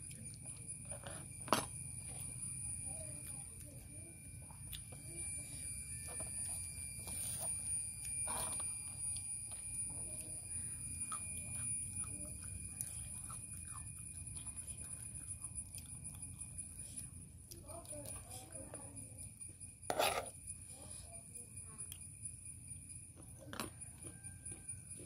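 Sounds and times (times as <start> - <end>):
soft chewing: 0.0 - 25.0.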